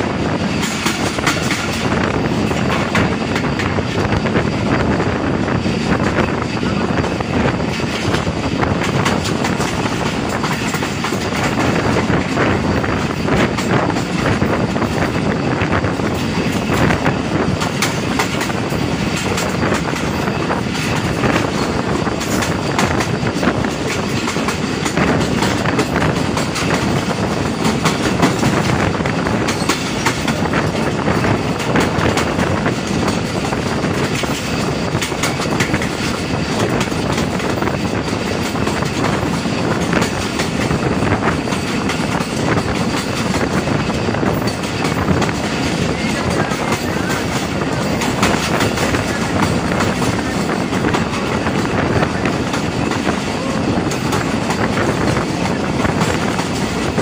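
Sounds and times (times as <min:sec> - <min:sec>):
train wheels rumbling on track: 0:00.0 - 0:57.0
wheels clicking over rail joints: 0:00.4 - 0:04.2, 0:06.0 - 0:57.0.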